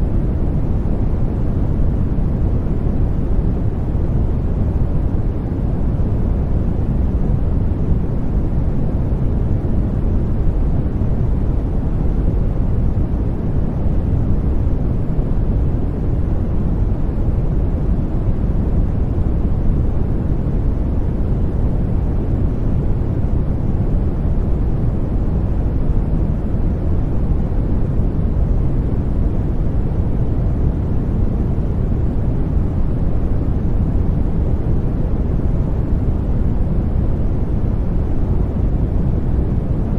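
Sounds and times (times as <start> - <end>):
deep rushing white noise: 0.0 - 39.9.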